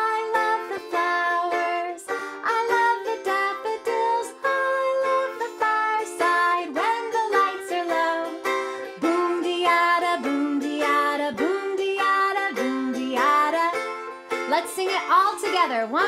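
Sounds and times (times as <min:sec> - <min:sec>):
banjo ukulele strumming: 0:00.0 - 0:16.0.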